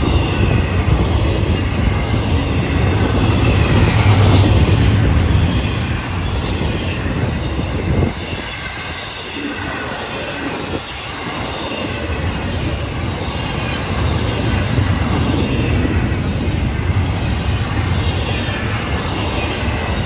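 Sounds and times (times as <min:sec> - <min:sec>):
freight train wheels rumbling on rails: 0:00.0 - 0:20.0.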